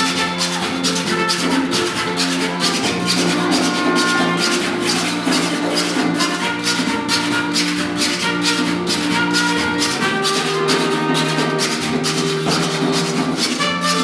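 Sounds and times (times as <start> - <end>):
scraped saw rhythm: 0.0 - 14.0
sustained melody notes: 0.0 - 14.0.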